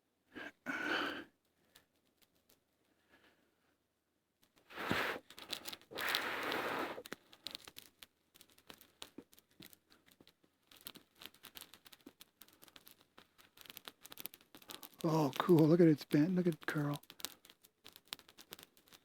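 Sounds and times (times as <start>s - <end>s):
campfire crackling and popping: 0.4s - 3.4s, 4.4s - 19.0s.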